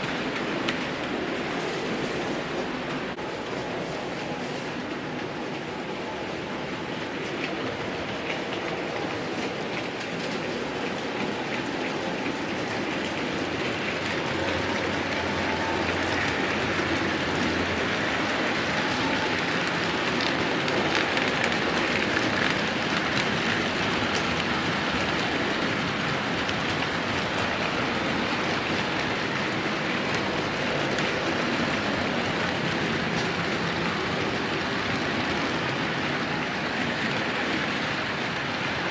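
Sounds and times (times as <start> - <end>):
model train wheels clattering: 6.9 - 38.9.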